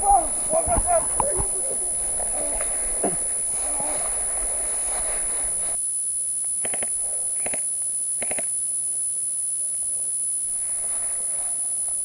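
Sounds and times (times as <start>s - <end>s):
steady high whine: 0.0s - 12.0s.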